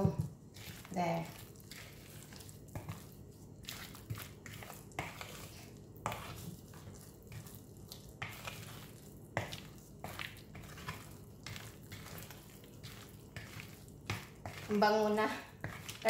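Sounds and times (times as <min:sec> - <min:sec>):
spatula stirring thick batter: 0:00.0 - 0:16.0.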